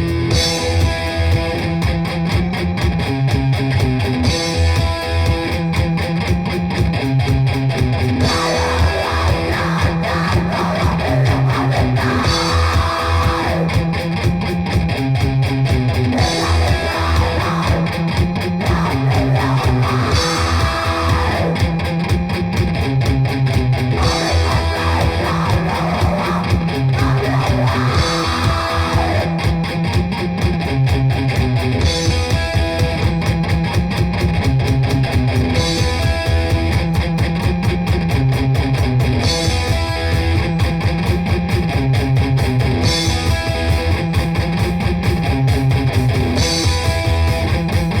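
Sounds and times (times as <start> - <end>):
grindcore music: 0.0 - 48.0.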